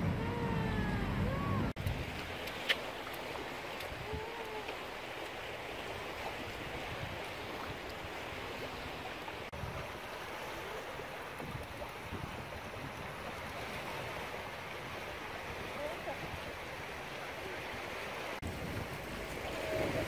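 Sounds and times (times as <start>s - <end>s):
sea lapping against seawall: 0.0s - 20.0s.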